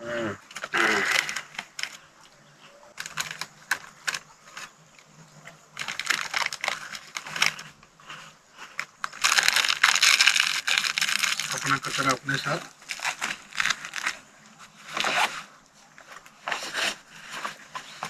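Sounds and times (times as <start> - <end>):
plastic crinkling: 0.5 - 2.0, 2.9 - 18.0.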